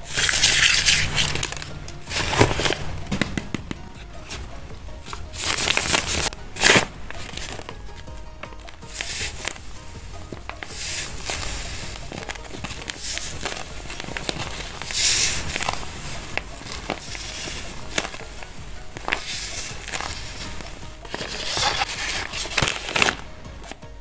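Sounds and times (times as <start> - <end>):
paper crinkling and crackling: 0.0 - 24.0.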